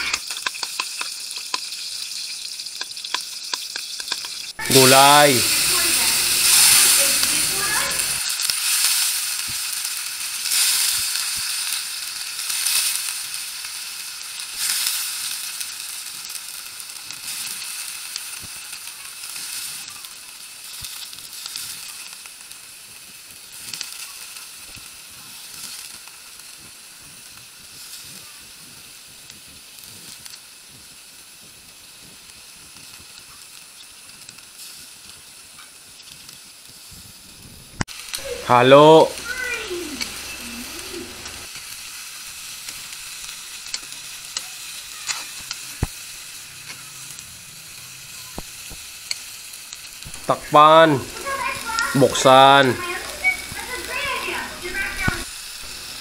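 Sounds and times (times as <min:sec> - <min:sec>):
vegetables sizzling in a wok: 0:00.0 - 0:56.0.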